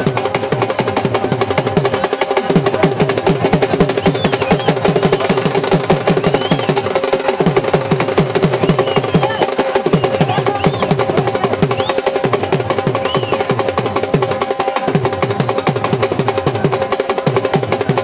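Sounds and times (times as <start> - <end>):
fast low drumming: 0.0 - 18.0.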